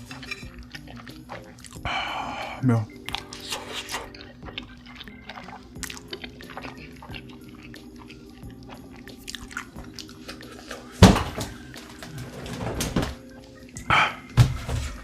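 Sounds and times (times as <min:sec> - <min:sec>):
wet chewing clicks: 0:00.0 - 0:12.3
faint steady music: 0:00.0 - 0:15.0.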